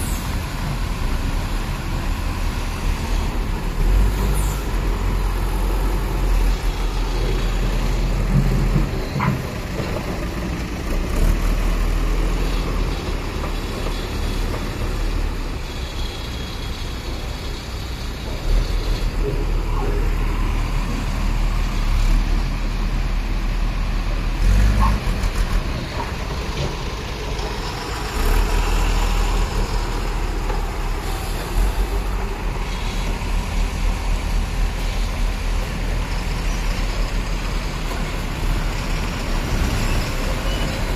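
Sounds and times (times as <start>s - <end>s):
diesel trucks engine rumble: 0.0s - 40.9s.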